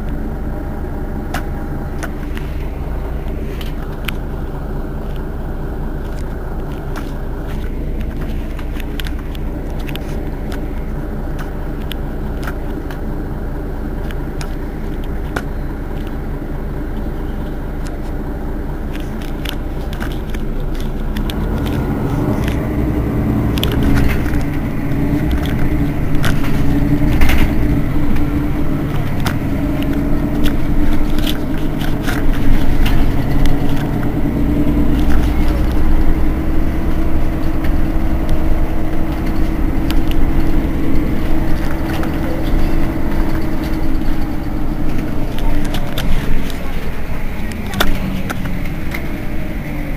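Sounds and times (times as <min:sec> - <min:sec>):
bus engine idling: 0:00.0 - 0:49.9.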